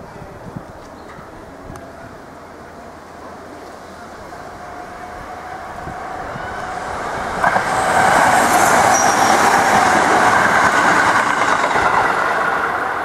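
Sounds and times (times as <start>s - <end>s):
train passing close by: 0.0s - 13.0s.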